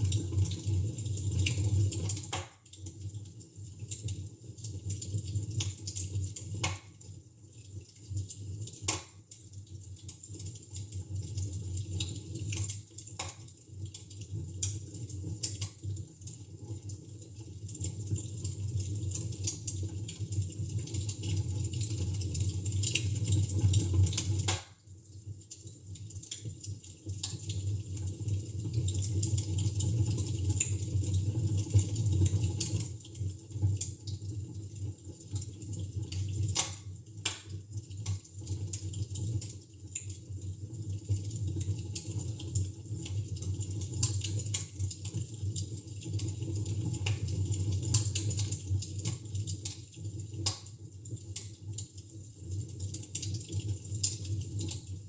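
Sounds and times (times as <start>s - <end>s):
wood fire crackling and popping: 0.1s - 55.0s.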